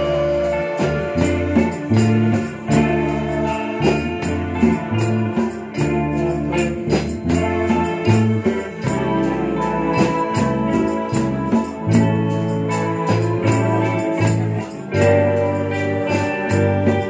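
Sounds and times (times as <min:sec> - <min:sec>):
bass line: 0:00.0 - 0:17.0
electric guitars: 0:00.0 - 0:17.0
sharp percussion hits: 0:00.0 - 0:17.0.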